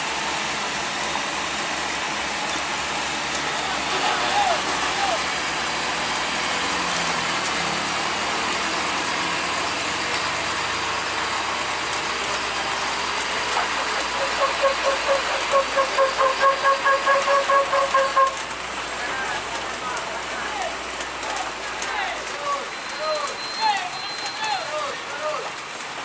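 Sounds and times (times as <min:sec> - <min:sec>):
steady rain: 0:00.0 - 0:26.0
traffic noise: 0:00.0 - 0:26.0.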